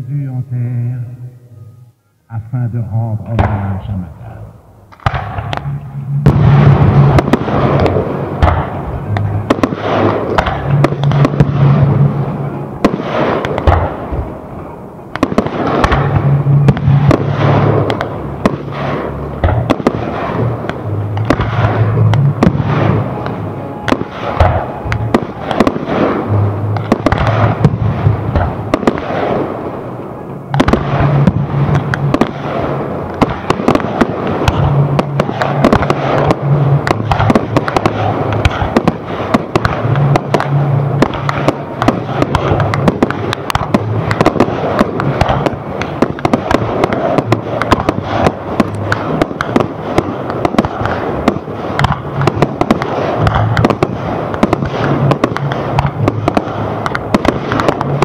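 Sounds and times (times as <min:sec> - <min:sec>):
fireworks bangs and crackling: 0:02.3 - 0:58.0.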